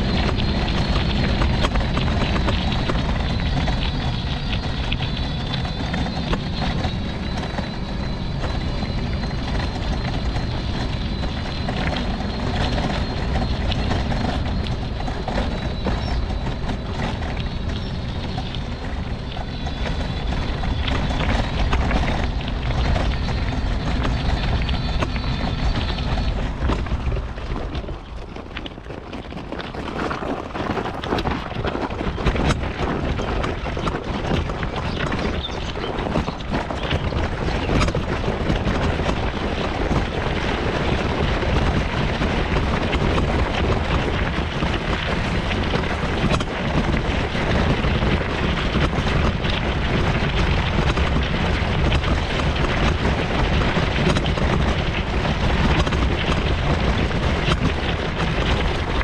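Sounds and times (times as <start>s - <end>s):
mobility scooter rumble: 0.0s - 59.0s
wind buffeting microphone: 0.0s - 59.0s.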